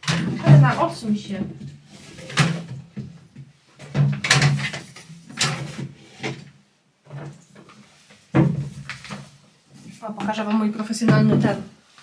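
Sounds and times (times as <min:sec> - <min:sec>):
household items knocking and rattling: 0:00.0 - 0:10.3, 0:11.0 - 0:11.7.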